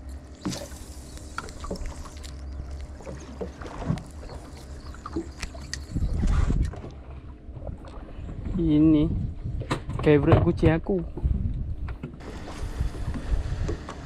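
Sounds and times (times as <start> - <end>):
boat low rumble: 0.0 - 14.0.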